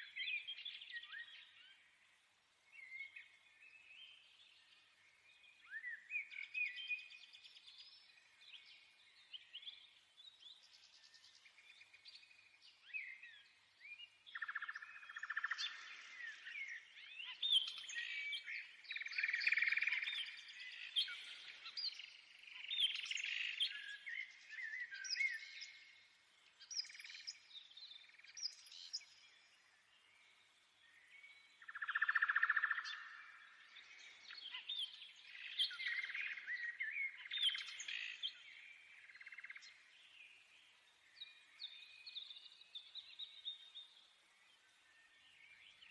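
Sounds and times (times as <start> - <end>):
birds chirping and twittering: 0.0 - 45.9.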